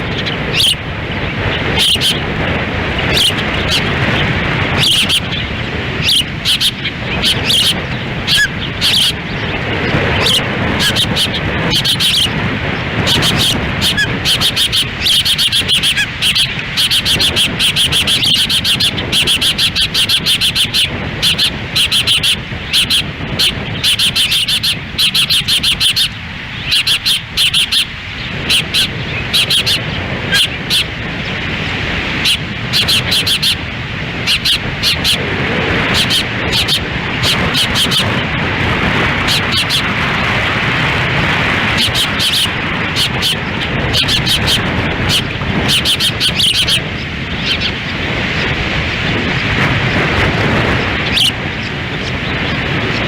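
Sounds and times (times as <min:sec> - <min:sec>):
ospreys chirping: 0:00.0 - 0:53.0
wind rumbling on microphone: 0:00.0 - 0:53.0.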